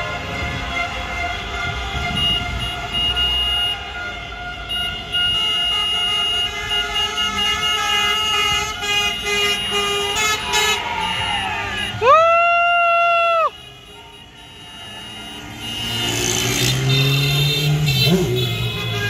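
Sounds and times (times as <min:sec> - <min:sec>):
car horns honking: 0:00.0 - 0:12.1, 0:13.2 - 0:19.0.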